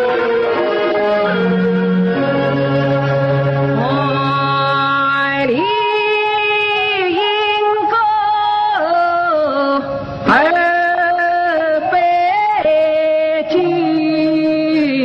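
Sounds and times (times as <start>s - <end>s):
opera singer: 0.0s - 15.0s
traditional instrumental accompaniment: 0.0s - 15.0s.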